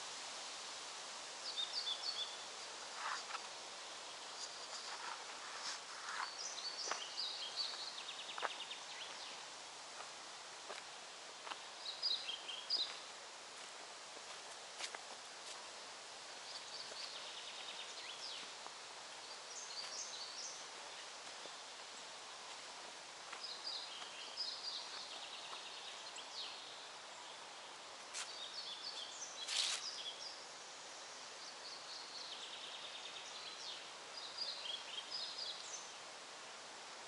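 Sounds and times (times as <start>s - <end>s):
steady hiss: 0.0s - 37.0s
songbirds chirping: 0.9s - 37.0s.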